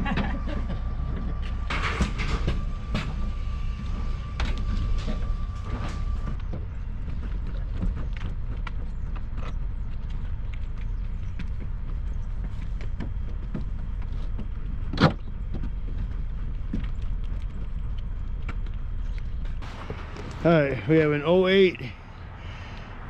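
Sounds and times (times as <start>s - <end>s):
vehicle low rumble: 0.0s - 23.0s.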